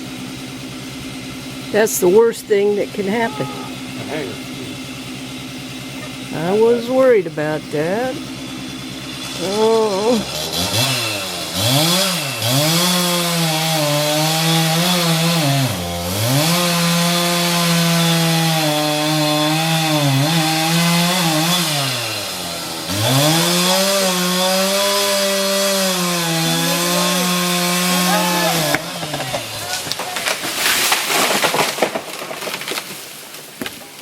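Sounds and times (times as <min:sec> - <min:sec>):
chainsaw cutting a tree: 0:00.0 - 0:34.0.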